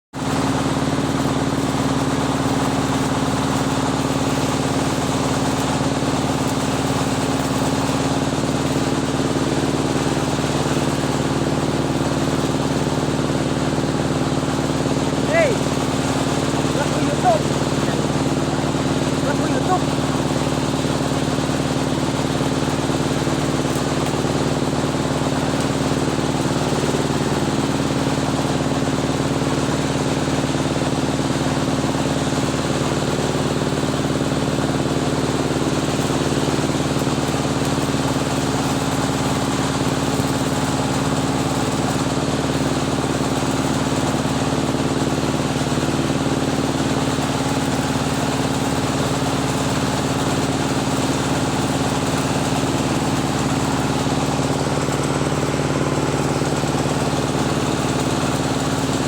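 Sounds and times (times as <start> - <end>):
engine idling: 0.2 - 59.0.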